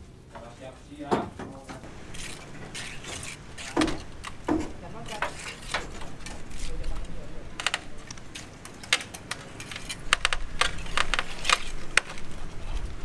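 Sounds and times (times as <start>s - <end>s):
hand tools knocking and clinking: 1.1s - 12.9s.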